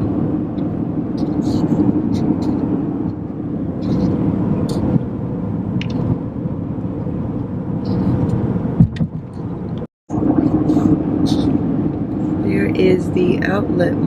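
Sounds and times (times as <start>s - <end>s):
road and engine noise in car: 0.0s - 14.0s.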